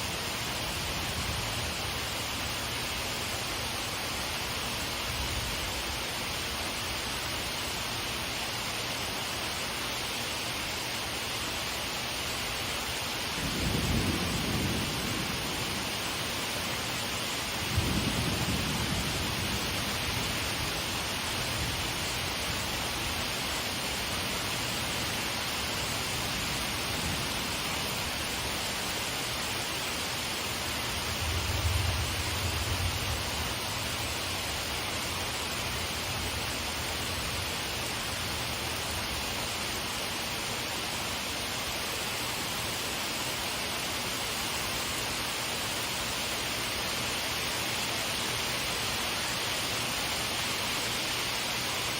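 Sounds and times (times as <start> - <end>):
rain shower hissing: 0.0 - 51.9.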